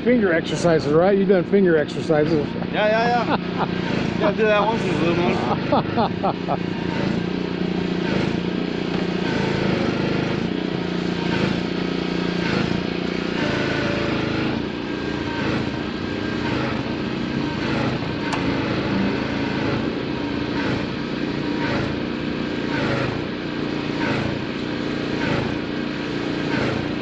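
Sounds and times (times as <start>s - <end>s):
machine humming with regular pulse: 0.0s - 27.0s.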